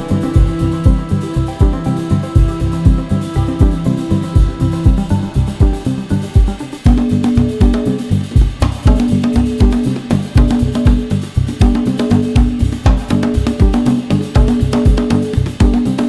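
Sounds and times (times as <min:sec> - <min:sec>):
held bass note: 0:00.0 - 0:15.7
busy drum beat: 0:00.0 - 0:16.0.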